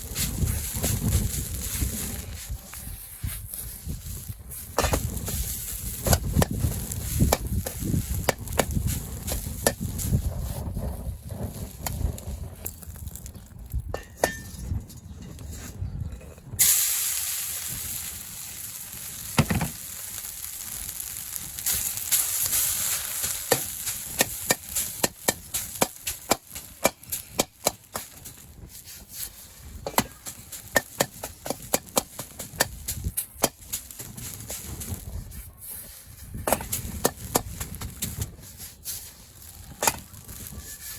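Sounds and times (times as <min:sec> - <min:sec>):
rice sizzling in a wok: 0:00.0 - 0:13.8, 0:16.6 - 0:40.9.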